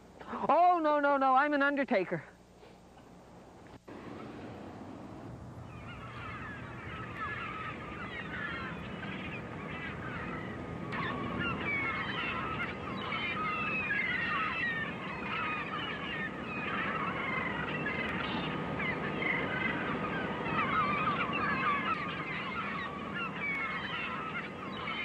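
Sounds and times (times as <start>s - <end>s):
outdoor background hum: 0.0s - 25.0s
flock of birds chirping: 2.8s - 25.0s.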